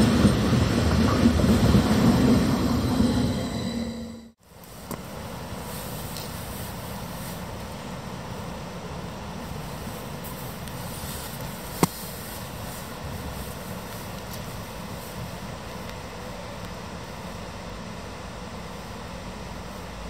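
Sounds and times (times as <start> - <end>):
electric trains humming: 0.0 - 20.0.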